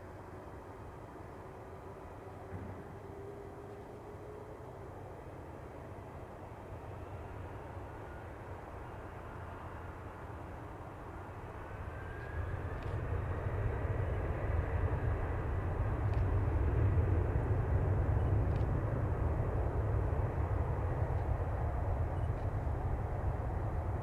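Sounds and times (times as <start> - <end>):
faint rising whine: 0.0 - 24.0
jet engines rumbling: 0.0 - 24.0.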